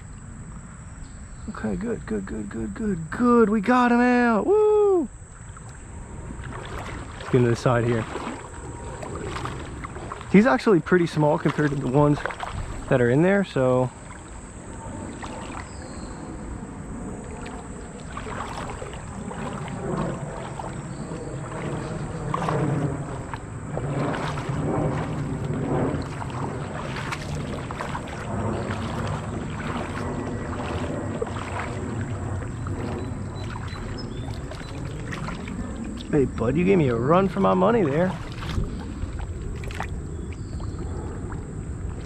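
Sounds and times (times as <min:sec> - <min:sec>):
creek water splashing: 0:01.5 - 0:42.0.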